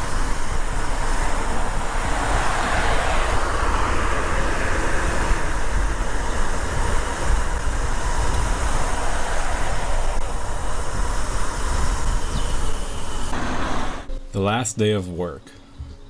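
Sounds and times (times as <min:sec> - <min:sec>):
wind rushing on microphone: 0:00.0 - 0:14.1.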